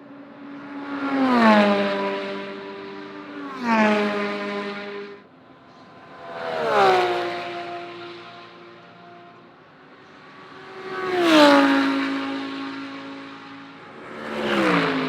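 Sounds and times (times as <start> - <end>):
race cars passing at speed: 0.0 - 15.0.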